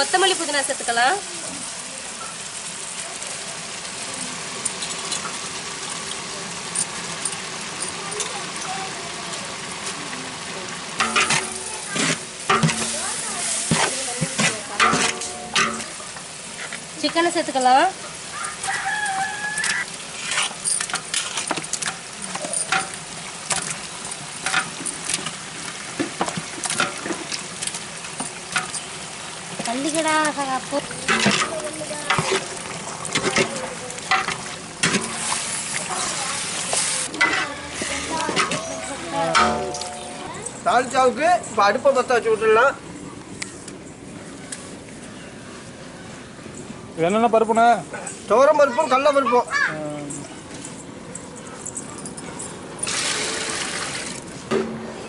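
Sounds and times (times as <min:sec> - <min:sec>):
food sizzling in oil: 0:00.0 - 0:42.5, 0:52.8 - 0:55.0.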